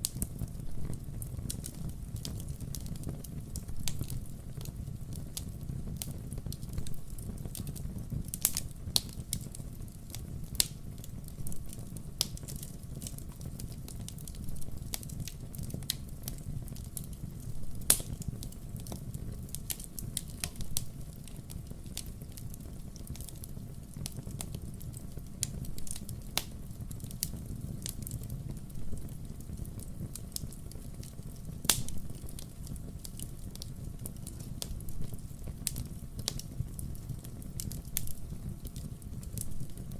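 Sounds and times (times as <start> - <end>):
burning logs popping and snapping: 0.0 - 39.9
flames rumbling: 0.0 - 39.9.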